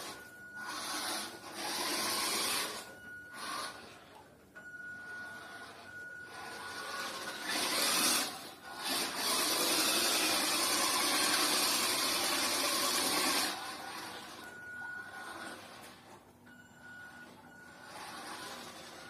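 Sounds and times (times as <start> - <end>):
toy car motor whirring: 0.0 - 4.1, 5.2 - 16.0, 17.7 - 19.0.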